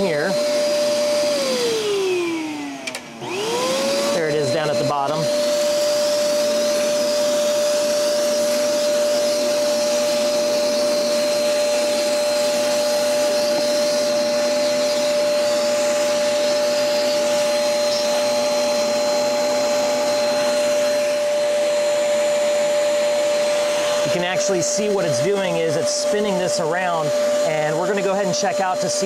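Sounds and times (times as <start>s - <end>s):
dust vacuum rushing and whining: 0.0s - 29.0s.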